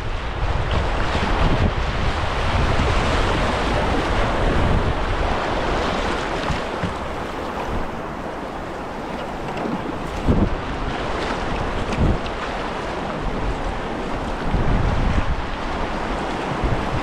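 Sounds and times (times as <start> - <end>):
whitewater rapids rushing: 0.0 - 17.0
wind rumble on microphone: 0.0 - 17.0.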